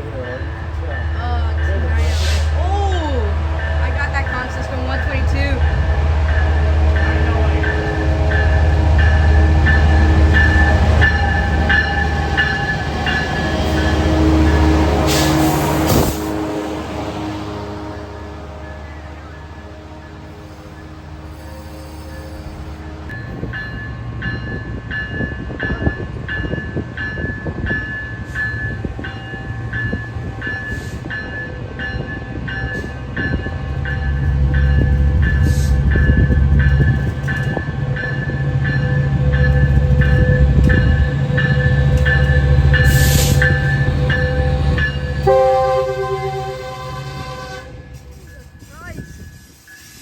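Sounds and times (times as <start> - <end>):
crossing bell ringing: 0.0 - 15.2, 15.8 - 50.0
train rumbling past: 0.0 - 50.0.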